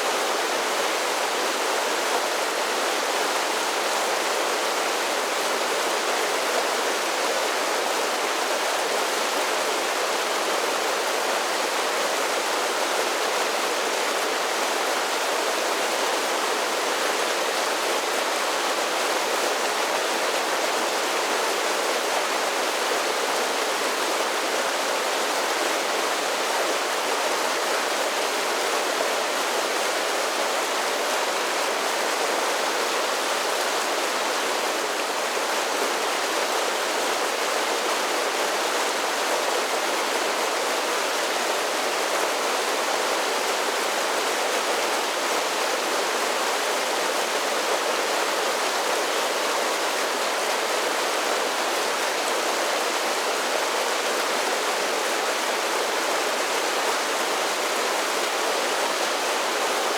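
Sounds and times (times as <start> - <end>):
creek rushing over waterfalls: 0.0 - 59.9.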